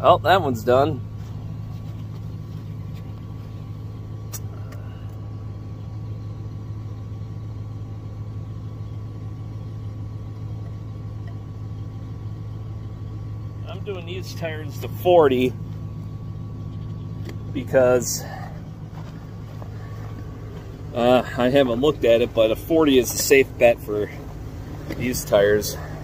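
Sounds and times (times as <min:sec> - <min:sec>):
low mechanical motor hum: 0:00.0 - 0:26.0.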